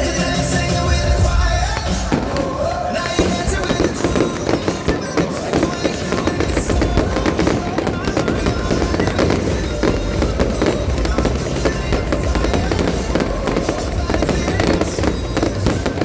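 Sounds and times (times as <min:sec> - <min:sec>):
fireworks booms: 0:00.0 - 0:16.0
fireworks crackling and popping: 0:00.0 - 0:16.0
pop song playing: 0:00.0 - 0:16.0.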